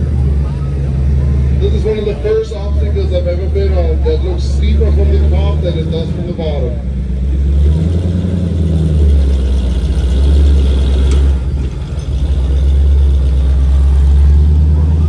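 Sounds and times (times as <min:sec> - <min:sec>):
buggy engine under load: 0:00.0 - 0:15.0.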